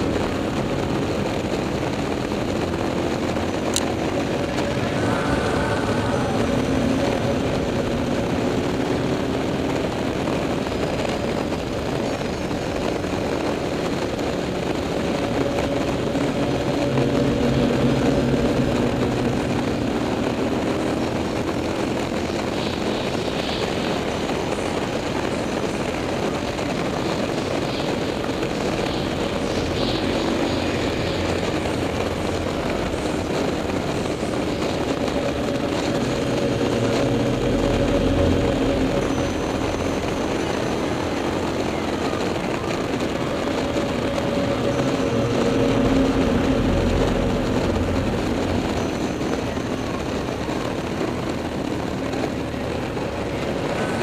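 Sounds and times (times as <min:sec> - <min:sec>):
motorcycle engine running: 0:00.0 - 0:54.0
wind on microphone: 0:00.0 - 0:54.0.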